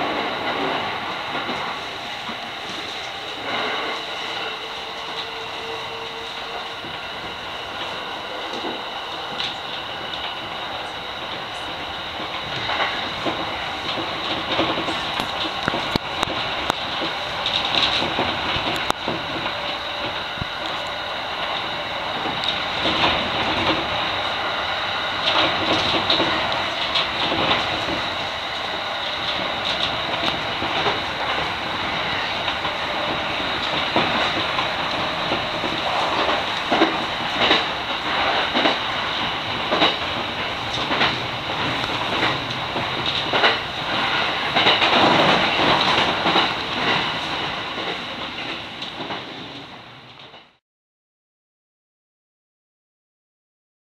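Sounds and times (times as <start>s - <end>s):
train running noise: 0.0s - 50.6s
wheels clicking over rail joints: 6.5s - 50.6s.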